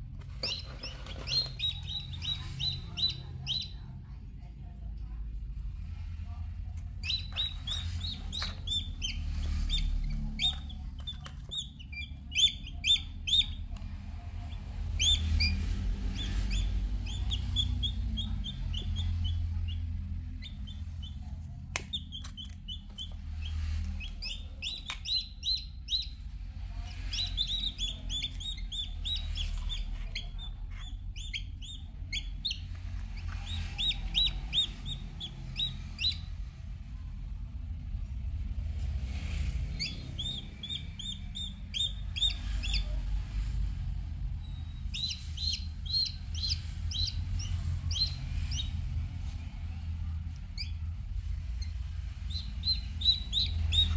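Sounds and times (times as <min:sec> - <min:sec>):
chicks peeping: 0:00.0 - 0:03.9, 0:06.8 - 0:36.6, 0:38.7 - 0:53.9.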